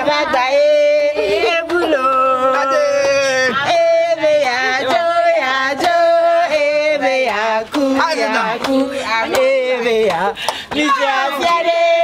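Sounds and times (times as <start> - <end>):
voices singing a chant: 0.0 - 12.0.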